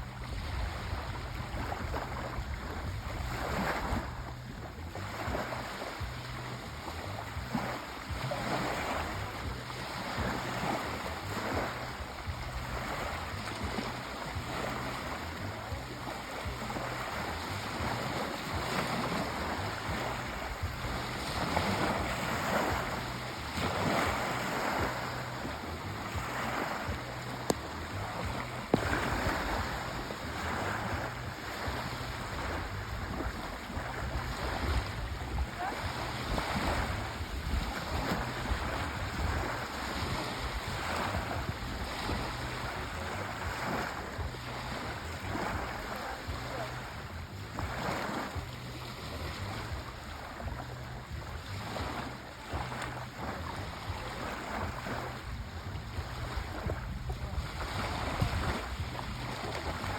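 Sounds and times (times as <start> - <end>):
sea waves surging: 0.0 - 59.9.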